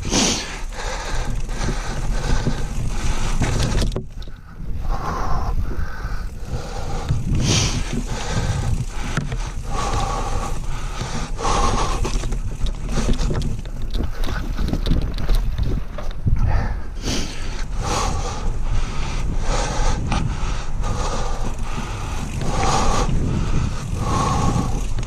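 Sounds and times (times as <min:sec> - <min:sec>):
bike clicks and rattles: 0:00.0 - 0:25.0
tyres rumbling on dirt trail: 0:00.0 - 0:25.0
wind buffeting microphone: 0:00.0 - 0:25.0.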